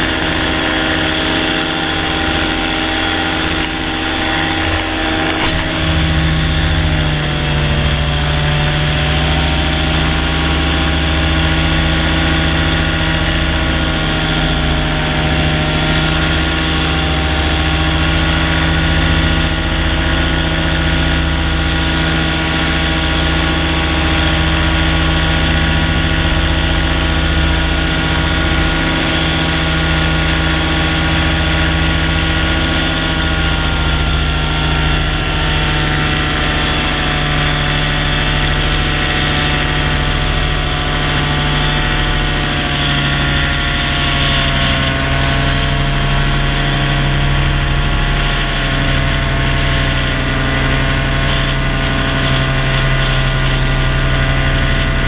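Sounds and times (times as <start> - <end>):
paramotor engine and propeller running: 0.0 - 55.0.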